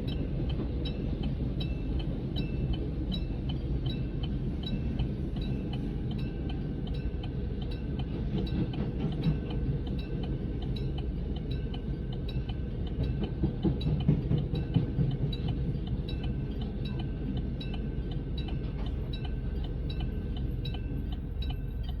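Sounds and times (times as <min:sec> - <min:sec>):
train low rumble: 0:00.0 - 0:22.0
train wheels clicking: 0:00.0 - 0:22.0.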